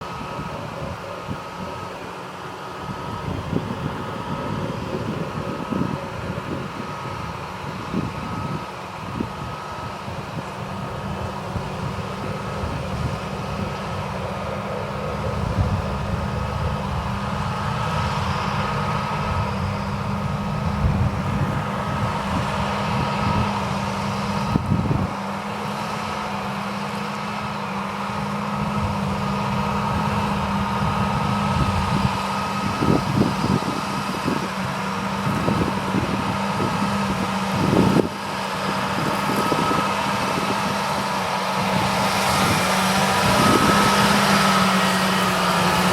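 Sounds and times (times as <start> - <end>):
faint machine whine: 0.0 - 45.9
tractor engine hum: 0.0 - 45.9.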